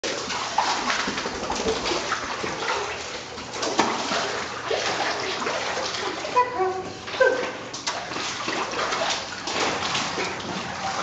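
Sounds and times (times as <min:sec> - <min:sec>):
dog splashing in water: 0:00.0 - 0:06.4, 0:07.0 - 0:11.0.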